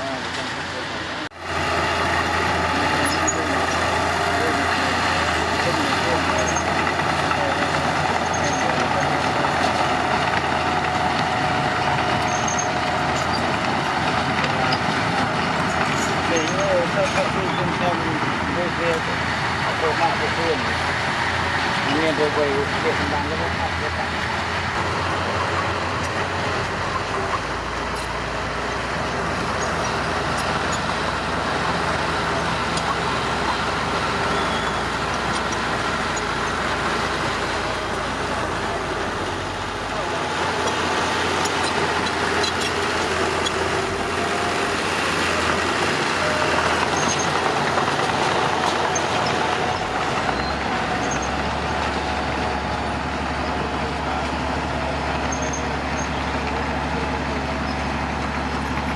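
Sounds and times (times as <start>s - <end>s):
heavy machinery diesel engine: 0.0s - 58.9s.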